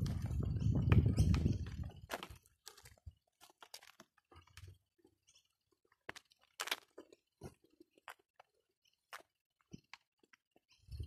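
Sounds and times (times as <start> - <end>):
footsteps on brick path: 0.0 - 11.0.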